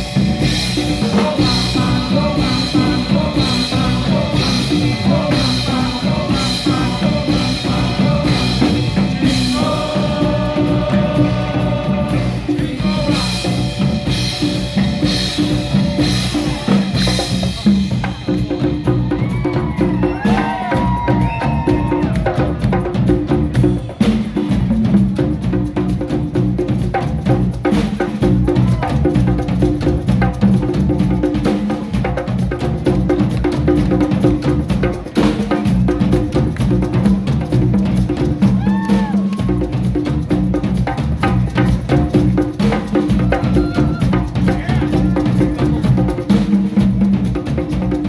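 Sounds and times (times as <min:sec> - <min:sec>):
bass: 0:00.0 - 0:48.0
drum kit: 0:00.0 - 0:48.0
hand percussion: 0:00.0 - 0:48.0.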